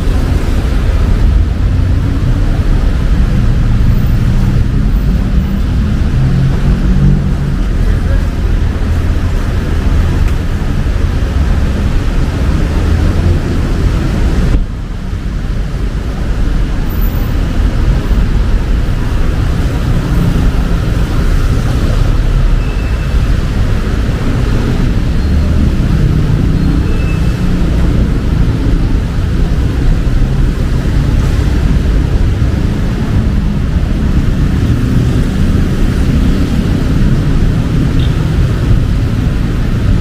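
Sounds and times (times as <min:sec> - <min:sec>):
street traffic rumble: 0:00.0 - 0:40.0.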